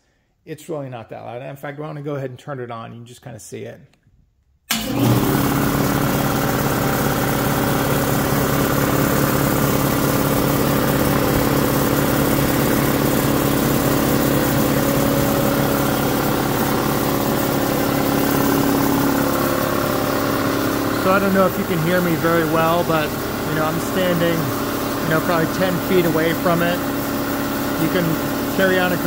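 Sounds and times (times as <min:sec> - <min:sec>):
air compressor running: 0:04.7 - 0:29.0.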